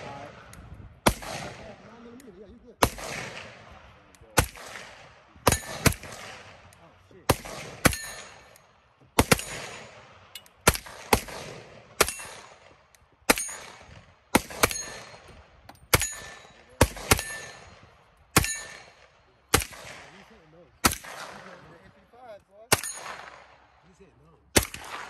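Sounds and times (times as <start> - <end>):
pistol gunshots with echo: 0.0 - 2.2, 2.8 - 22.0, 22.7 - 23.8, 24.5 - 25.0.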